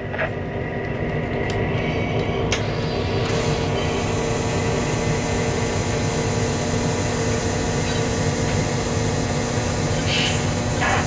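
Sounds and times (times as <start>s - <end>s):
model locomotive engine rumble: 0.9s - 11.0s.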